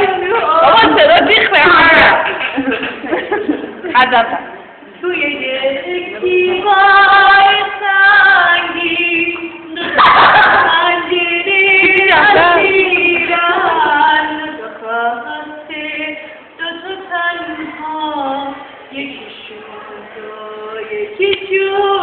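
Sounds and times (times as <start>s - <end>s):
voices singing unaccompanied: 0.0s - 2.3s, 5.0s - 22.0s.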